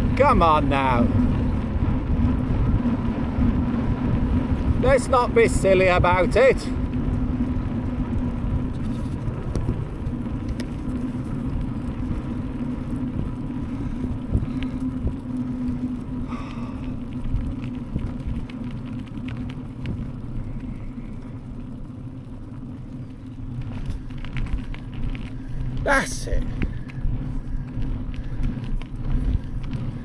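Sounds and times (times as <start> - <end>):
bike rattles and clicks: 0.0 - 30.0
bike tyres rumbling on rough track: 0.0 - 30.0.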